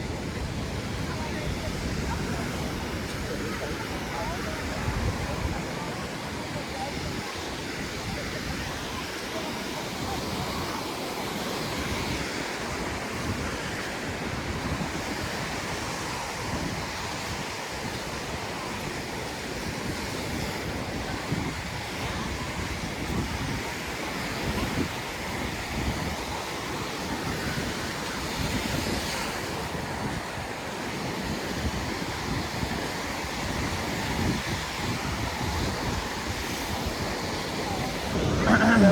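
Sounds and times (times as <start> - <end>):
surf washing onto beach: 0.0 - 38.9
wind gusting against microphone: 0.0 - 38.9.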